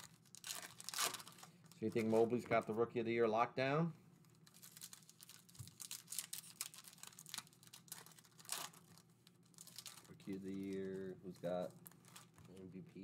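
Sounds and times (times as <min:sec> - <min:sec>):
foil wrapper crinkling and tearing: 0:00.0 - 0:02.8, 0:04.2 - 0:13.0.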